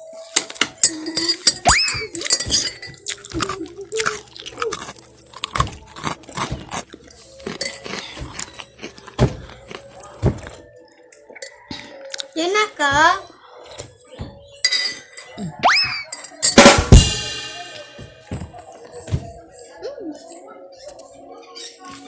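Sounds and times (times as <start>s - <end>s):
dishes and cutlery clinking: 0.2s - 19.5s.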